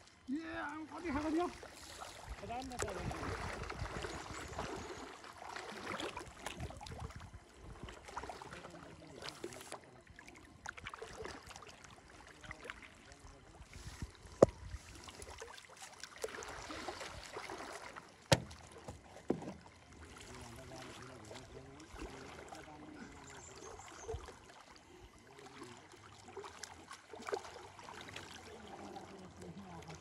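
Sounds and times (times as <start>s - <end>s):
water sloshing and splashing: 0.0s - 30.0s.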